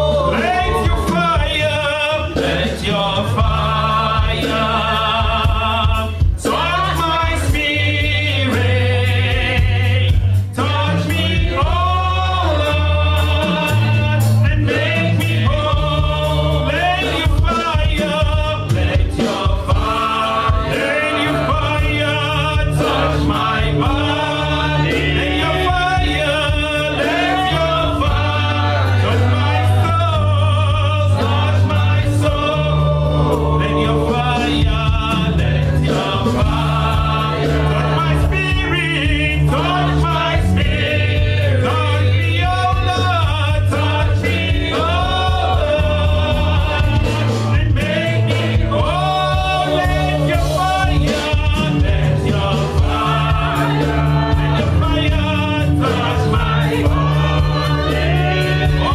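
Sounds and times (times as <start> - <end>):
choir singing: 0.0 - 58.9
sustained instrumental chords: 0.0 - 58.9.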